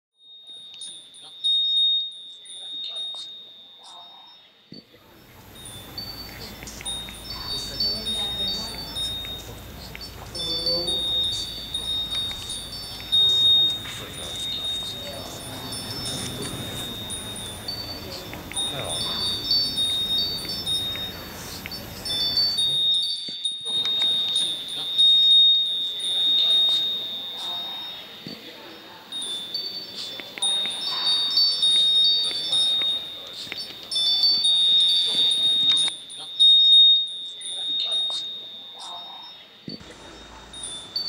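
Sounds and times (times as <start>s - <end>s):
high tinkling chime tones: 0.2s - 41.0s
faint low murmur: 2.2s - 41.0s.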